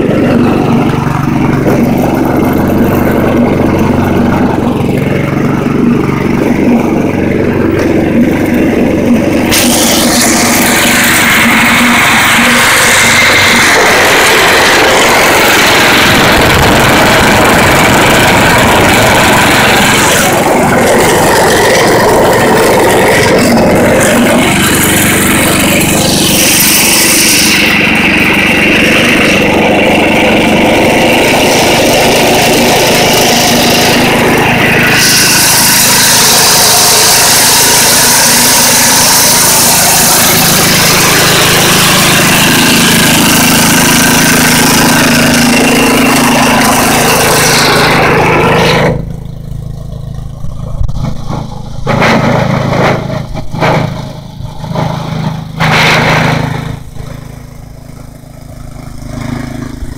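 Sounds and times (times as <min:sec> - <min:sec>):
snow blower engine running: 0:00.0 - 0:59.9.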